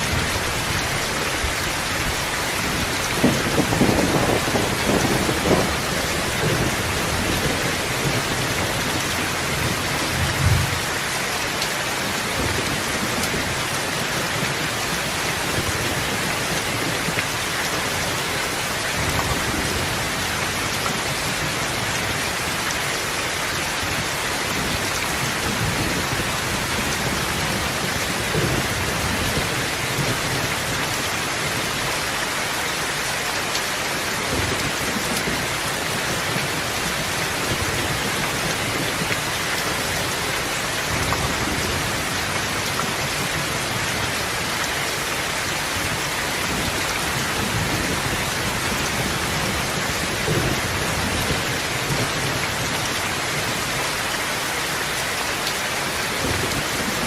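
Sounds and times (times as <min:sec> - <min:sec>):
dense rainfall hiss: 0:00.0 - 0:57.0.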